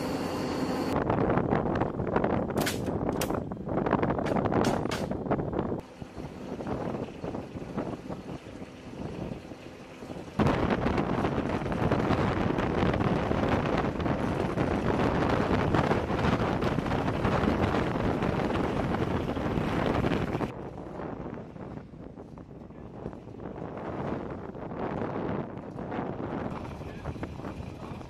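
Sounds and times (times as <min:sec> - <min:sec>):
wind buffeting microphone: 0:00.9 - 0:28.0
utility vehicle engine running: 0:01.6 - 0:28.0.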